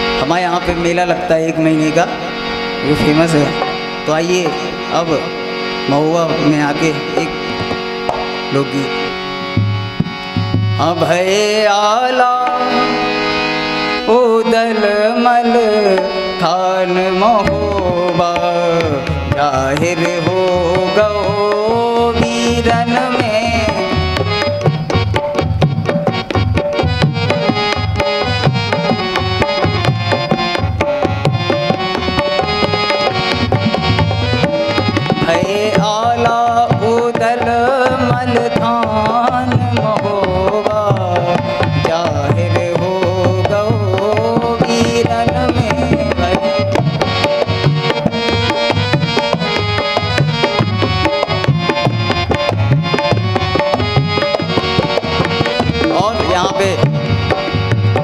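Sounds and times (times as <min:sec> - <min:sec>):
harmonium melody: 0:00.0 - 0:58.0
tabla and dholak drumming: 0:00.0 - 0:58.0.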